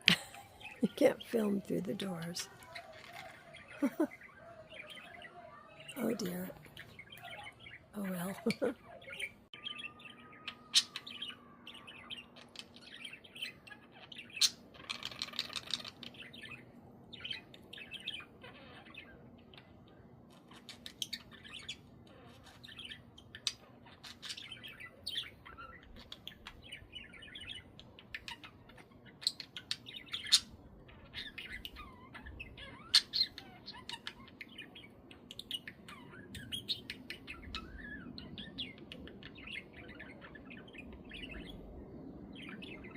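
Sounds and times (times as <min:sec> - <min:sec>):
budgerigars chirping and chattering: 0:00.1 - 0:42.9.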